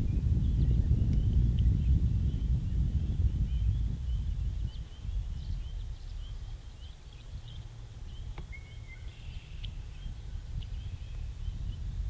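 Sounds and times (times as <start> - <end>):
low wind rumble: 0.0 - 12.0
frogs and birds chirping: 0.5 - 11.9.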